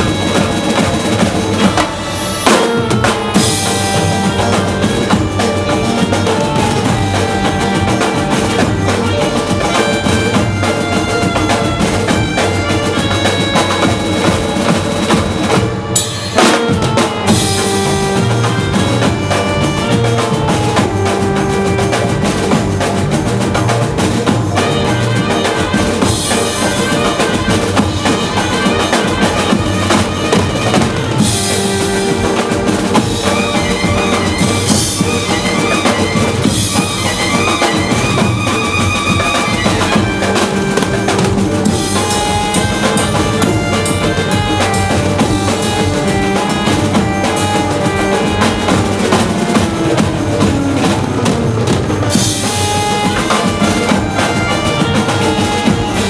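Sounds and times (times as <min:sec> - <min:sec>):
band playing: 0:00.0 - 0:56.0
heavy drums and percussion: 0:00.0 - 0:56.0
loud drum fill: 0:00.0 - 0:56.0.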